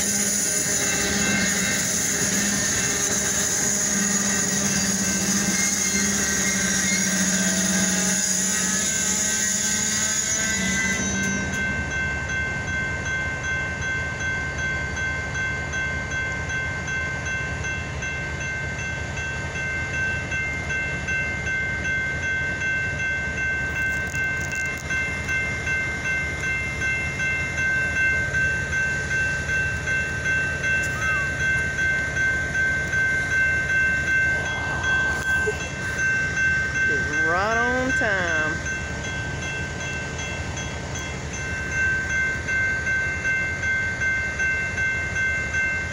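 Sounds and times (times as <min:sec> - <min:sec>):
train wheels rumbling over rail joints: 0:00.0 - 0:13.6, 0:14.4 - 0:45.9
high-pitched ringing tone: 0:00.0 - 0:45.9.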